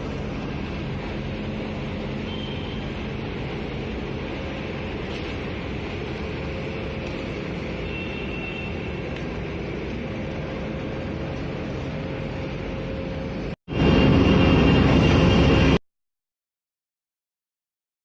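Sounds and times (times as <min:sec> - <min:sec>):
street sweeper engine and blower: 0:00.0 - 0:15.8.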